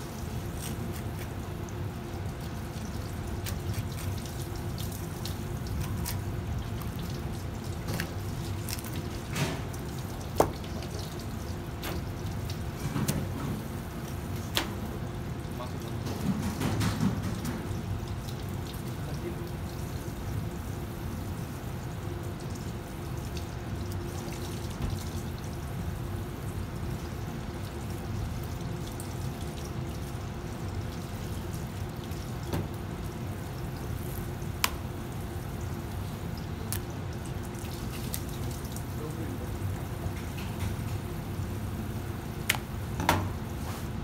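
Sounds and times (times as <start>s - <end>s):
kitchen background hum and hiss: 0.0s - 44.0s.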